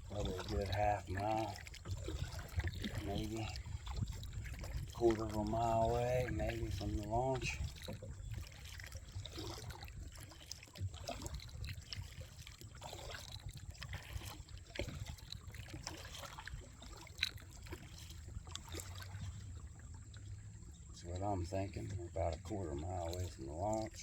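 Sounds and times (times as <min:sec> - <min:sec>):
paddle splashing and dripping: 0:00.0 - 0:24.0.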